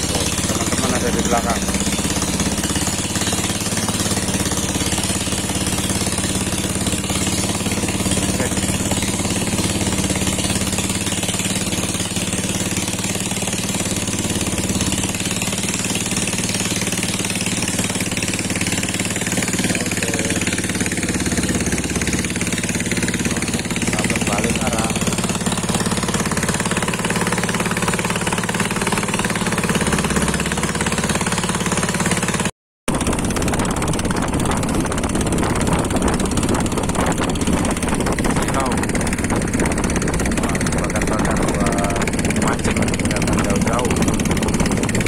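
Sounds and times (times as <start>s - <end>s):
small boat engine running: 0.0s - 45.0s.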